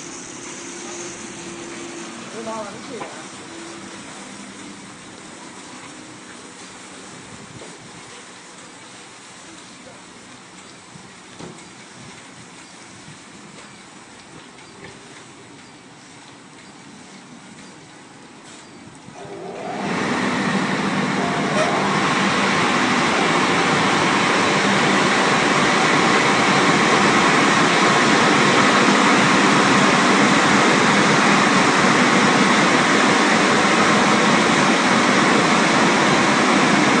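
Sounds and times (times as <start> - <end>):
car wash machine rushing: 0.0 - 14.1, 19.1 - 37.0.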